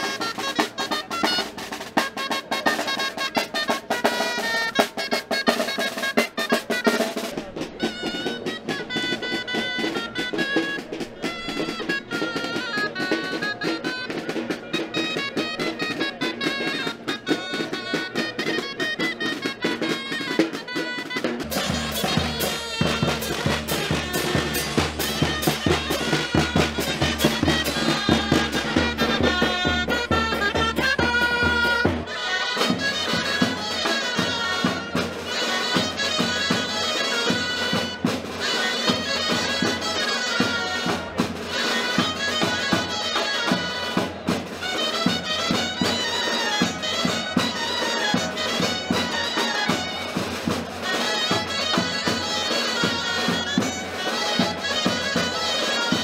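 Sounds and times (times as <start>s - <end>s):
reedy shawm melody: 0.0s - 56.0s.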